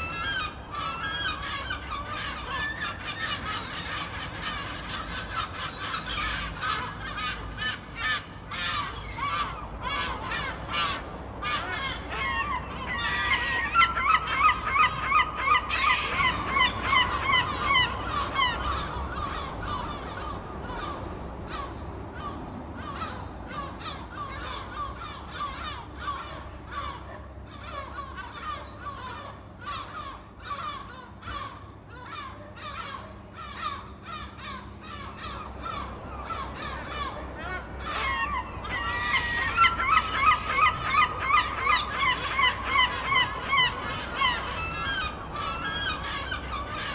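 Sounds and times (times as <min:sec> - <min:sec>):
seagulls squawking: 0:00.0 - 0:46.9.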